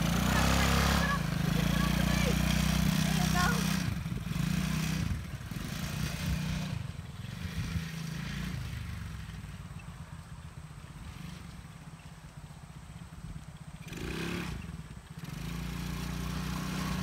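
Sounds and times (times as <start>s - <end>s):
atv engine driving away: 0.0s - 17.0s.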